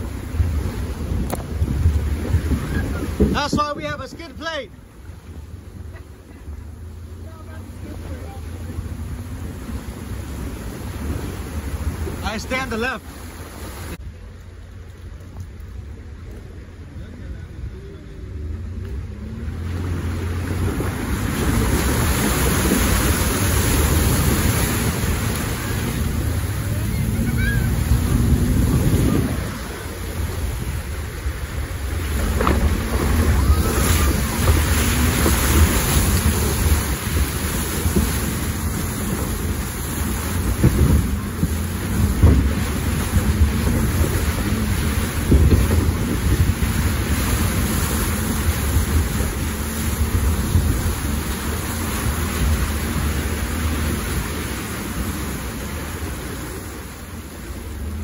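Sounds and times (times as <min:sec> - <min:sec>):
deep vehicle rumble: 0:00.0 - 0:58.0
water rushing and splashing: 0:00.0 - 0:58.0.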